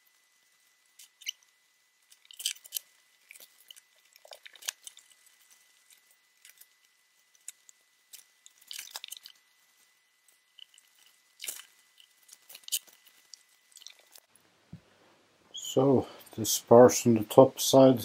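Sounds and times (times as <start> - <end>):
crackles and rustles of foam: 0.0 - 14.4.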